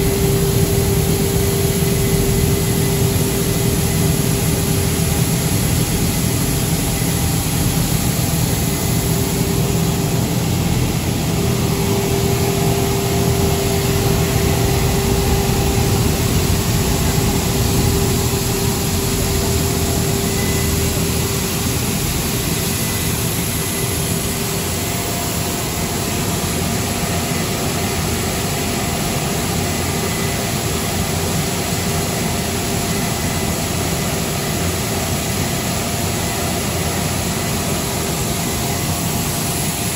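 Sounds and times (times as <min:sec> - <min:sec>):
constant hum: 0:00.0 - 0:39.9
machinery drone: 0:00.0 - 0:39.9.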